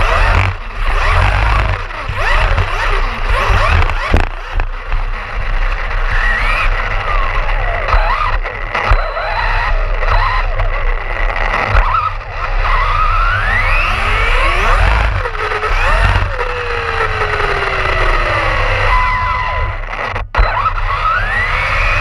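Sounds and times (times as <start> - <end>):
electric motor whining: 0.0 - 22.0
tires rumbling on ground: 0.0 - 22.0.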